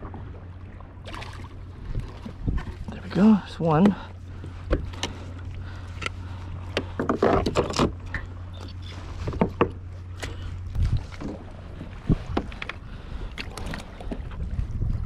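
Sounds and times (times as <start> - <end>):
low hum of water and wind: 0.0 - 15.0.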